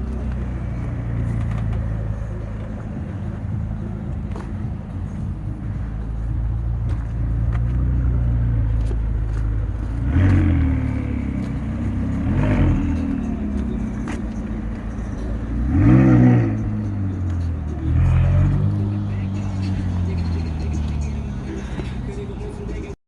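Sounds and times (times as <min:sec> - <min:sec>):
car engine idling: 0:00.0 - 0:23.0
engine throttle blips: 0:00.0 - 0:23.0.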